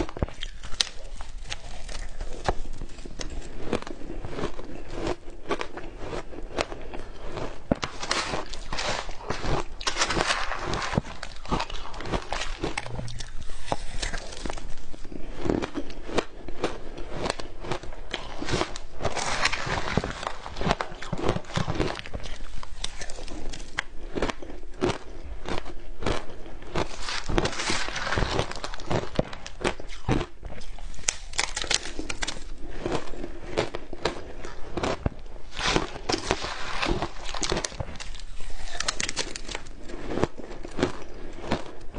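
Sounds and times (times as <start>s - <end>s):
crunchy chewing of frozen ice: 0.0s - 41.9s.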